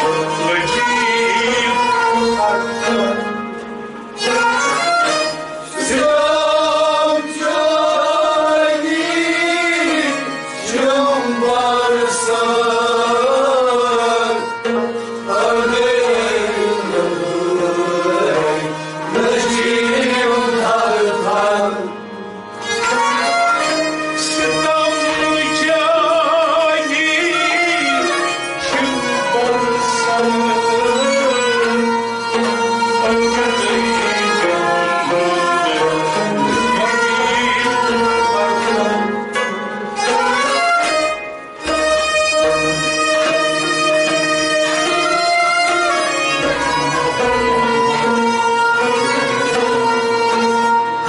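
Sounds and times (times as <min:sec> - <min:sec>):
devotional song with harmonium: 0:00.0 - 0:51.0
lute playing: 0:00.0 - 0:51.0.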